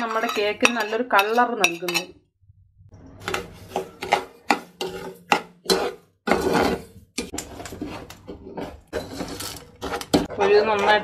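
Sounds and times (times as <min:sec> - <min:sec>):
spoon scraping metal saucepan: 0:00.0 - 0:02.2, 0:03.1 - 0:11.0.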